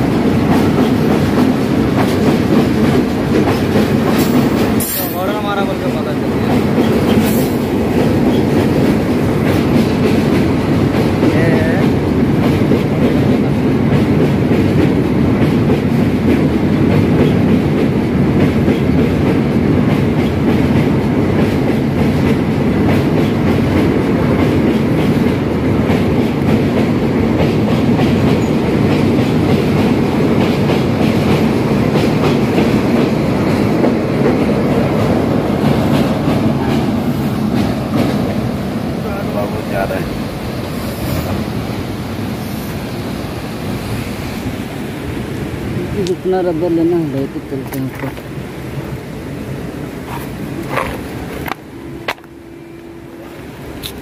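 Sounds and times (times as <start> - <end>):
steel wheels on rails: 0.0 - 54.0.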